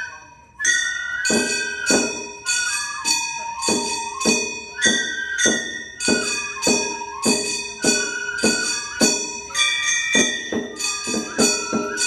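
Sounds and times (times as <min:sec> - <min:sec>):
bamboo flute melody: 0:00.0 - 0:12.0.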